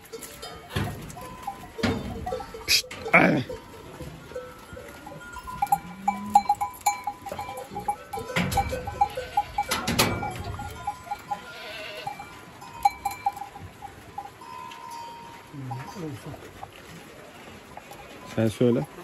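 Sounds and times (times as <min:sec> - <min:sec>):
goat bells clinking: 0:00.0 - 0:19.0
goats milling about: 0:00.0 - 0:19.0.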